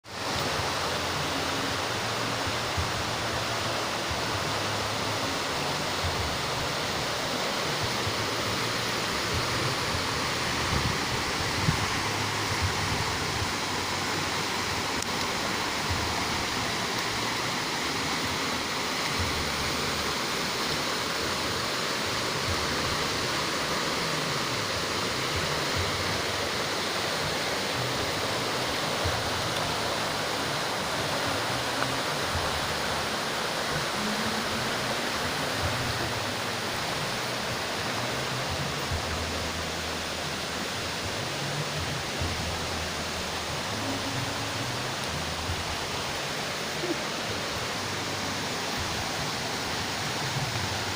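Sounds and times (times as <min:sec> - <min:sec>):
water rushing and splashing: 0:00.0 - 0:50.9.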